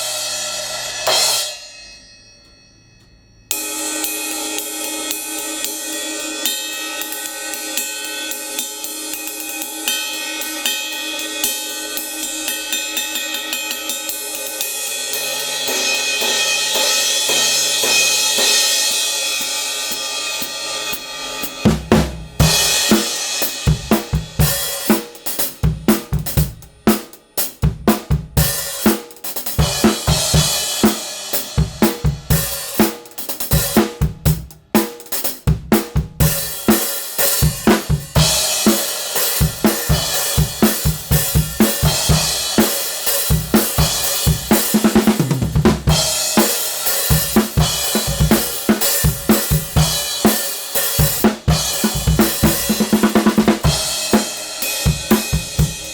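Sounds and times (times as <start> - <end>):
cymbal wash: 0.0 - 27.8, 28.4 - 33.8, 36.2 - 55.9.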